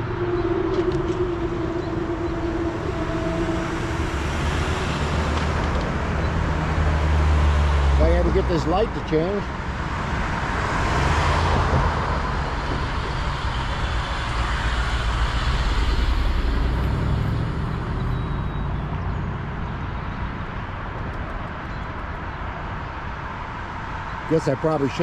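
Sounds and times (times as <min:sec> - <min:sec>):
traffic passing: 0:00.0 - 0:25.0.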